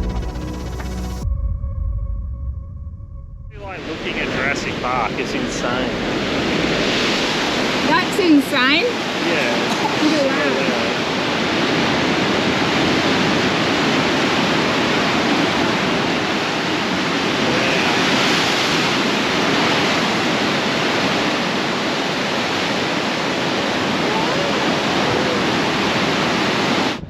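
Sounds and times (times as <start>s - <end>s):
ocean surf rushing: 3.5s - 27.0s.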